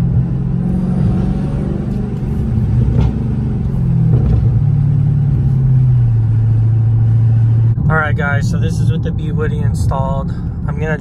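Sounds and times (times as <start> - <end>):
car engine exhaust drone: 0.0 - 11.0.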